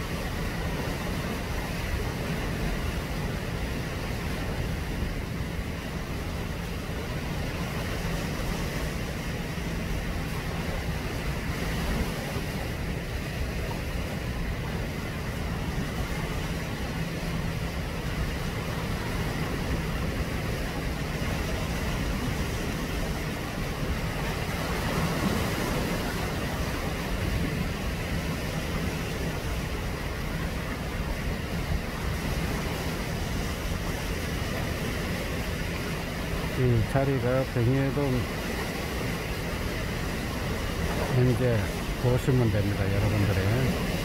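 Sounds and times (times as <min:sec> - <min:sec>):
sea washing against rocks: 0:00.0 - 0:44.0
wind rumble on microphone: 0:00.0 - 0:44.0.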